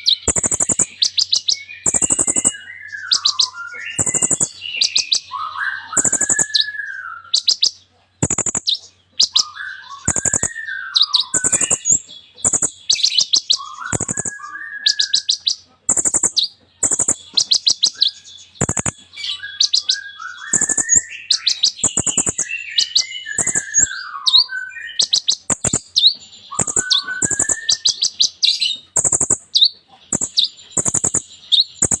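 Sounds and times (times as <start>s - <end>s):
bird singing varied song: 0.0s - 32.0s.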